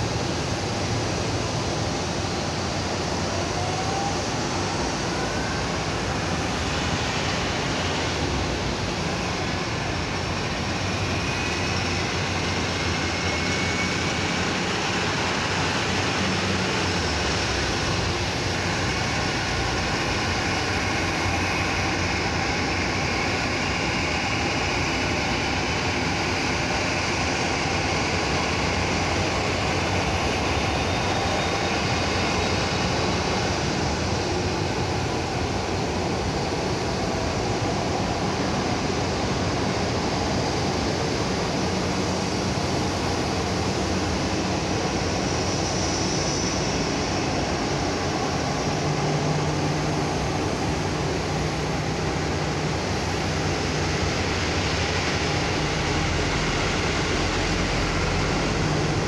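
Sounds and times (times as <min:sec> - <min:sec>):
high jet engine whine: 0:00.0 - 0:59.0
jet engines rushing: 0:00.0 - 0:59.0.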